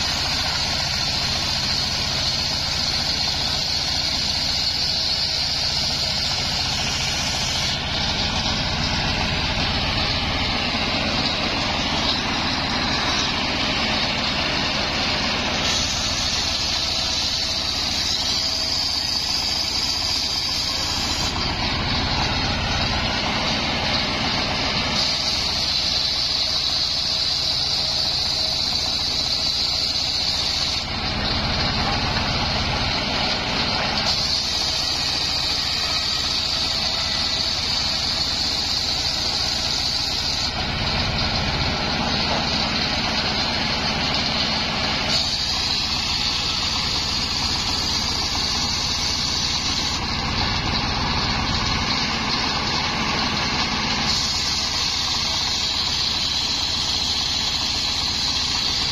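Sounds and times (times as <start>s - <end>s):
engine running steadily: 0.0s - 58.9s
saw blade cutting whine: 0.0s - 58.9s.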